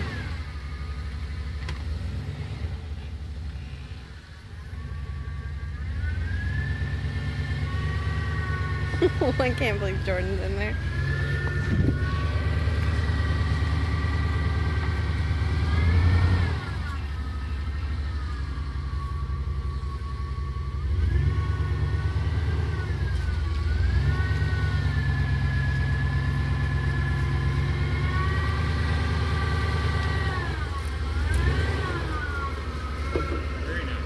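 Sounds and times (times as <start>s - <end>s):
vehicle engine revving under load: 0.0s - 34.0s.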